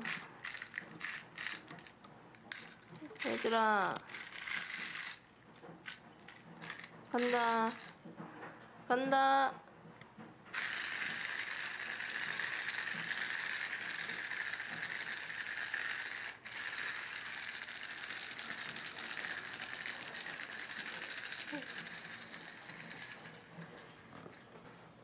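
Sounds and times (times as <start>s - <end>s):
clockwork toy whirring rattle: 0.0s - 8.0s, 10.5s - 24.0s.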